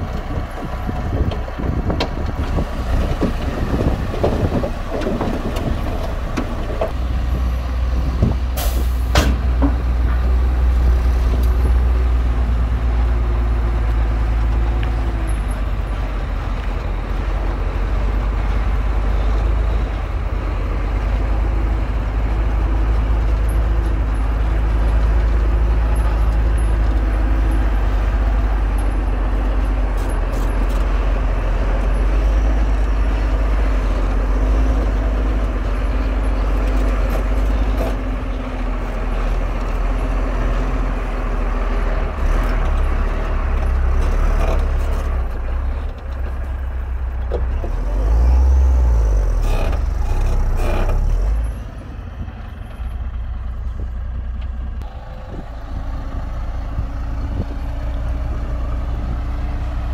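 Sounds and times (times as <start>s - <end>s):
heavy diesel machinery engine drone: 0.0s - 59.9s.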